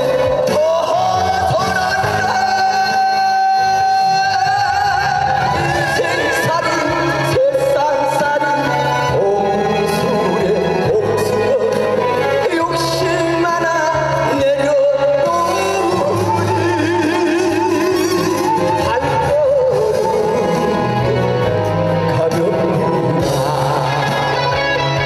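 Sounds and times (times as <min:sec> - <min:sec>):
man singing into microphone: 0:00.0 - 0:25.0
musical accompaniment: 0:00.0 - 0:25.0.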